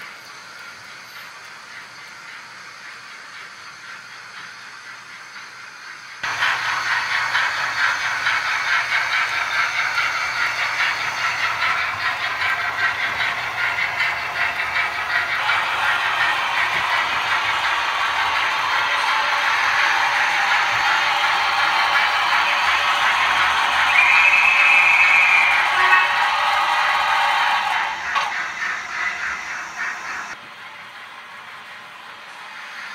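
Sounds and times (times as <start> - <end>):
model train wheels clattering: 0.0 - 32.9.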